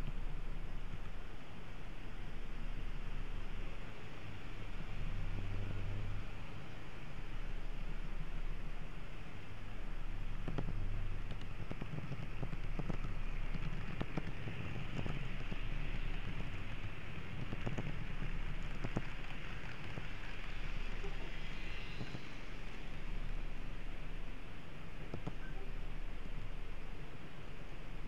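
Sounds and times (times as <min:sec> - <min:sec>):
model train rumble: 0:00.0 - 0:28.0
wheels clicking over rail joints: 0:01.9 - 0:27.7.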